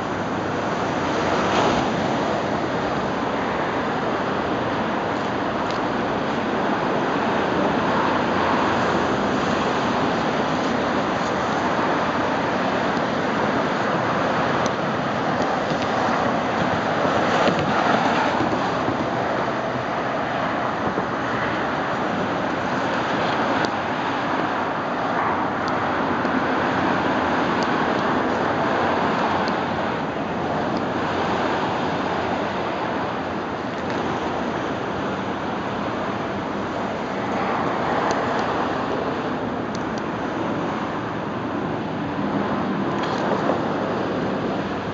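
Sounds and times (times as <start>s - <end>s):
ocean surf washing onto beach: 0.0s - 44.9s
waves breaking on shore: 0.0s - 44.9s.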